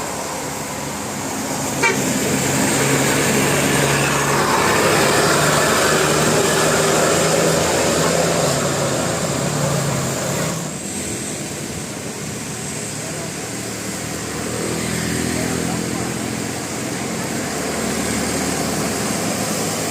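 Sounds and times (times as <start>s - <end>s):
bus driving past: 0.0s - 19.9s.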